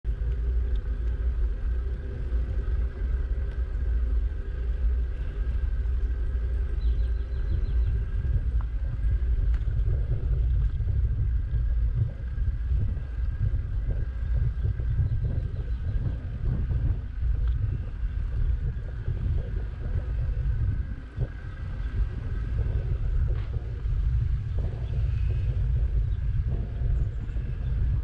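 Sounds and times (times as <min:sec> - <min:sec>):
bicycle tyres on asphalt: 0:00.0 - 0:28.0
wind buffeting microphone: 0:00.0 - 0:28.0.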